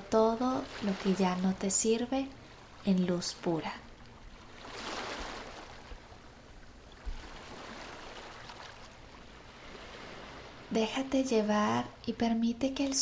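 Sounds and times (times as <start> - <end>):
sea waves washing on shore: 0.0 - 12.1.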